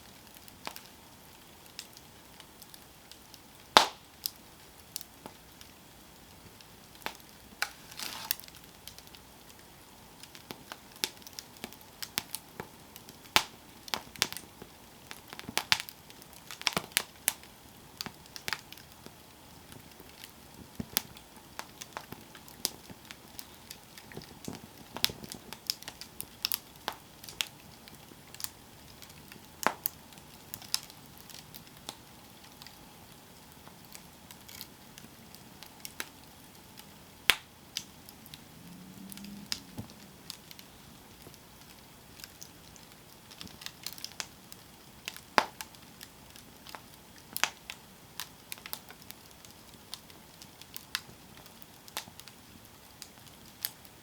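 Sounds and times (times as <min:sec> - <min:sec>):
campfire crackling and popping: 0:00.0 - 0:54.0
soft fire hiss: 0:00.0 - 0:54.0.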